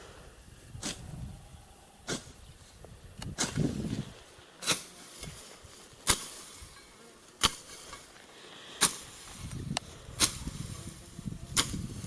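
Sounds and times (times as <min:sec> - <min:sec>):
plants rustling: 0:02.1 - 0:12.0.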